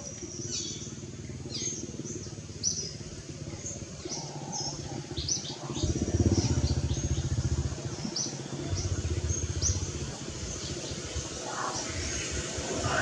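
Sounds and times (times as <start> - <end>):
bird chirping: 0.0 - 11.0
small engine running: 0.1 - 10.7.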